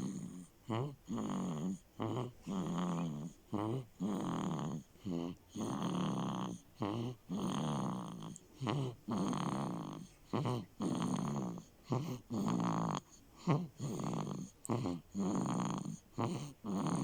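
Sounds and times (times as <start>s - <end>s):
person snoring: 0.0s - 17.0s.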